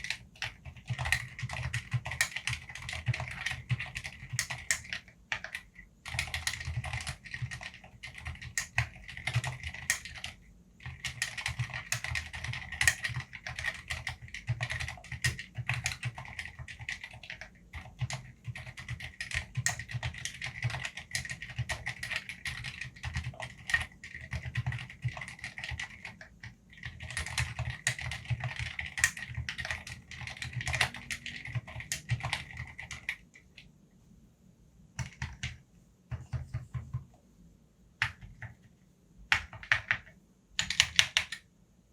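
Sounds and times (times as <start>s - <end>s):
typing on mechanical keyboard: 0.0s - 33.7s, 35.0s - 37.2s, 38.0s - 41.5s.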